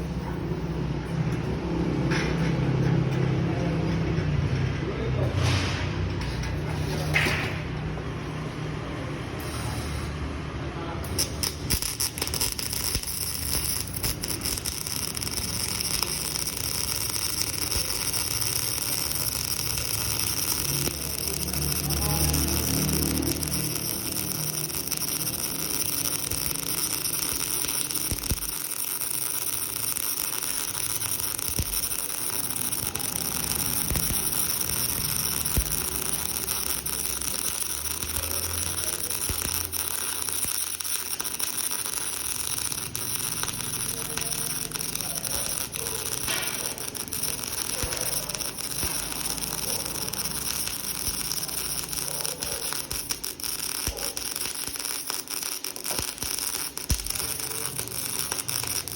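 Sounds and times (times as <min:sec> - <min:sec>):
welding arc crackling hiss: 0:05.3 - 0:58.9.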